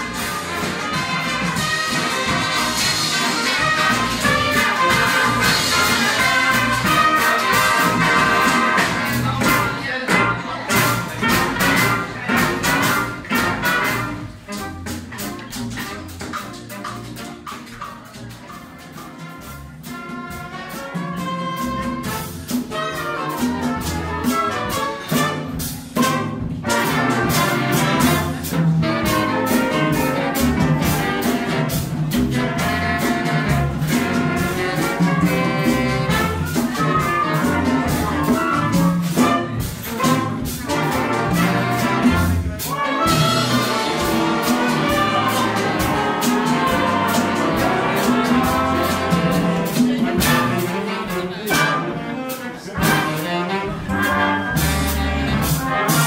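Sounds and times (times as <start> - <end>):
brass band playing latin music: 0.0 - 56.0
congas and drum kit: 0.0 - 56.0.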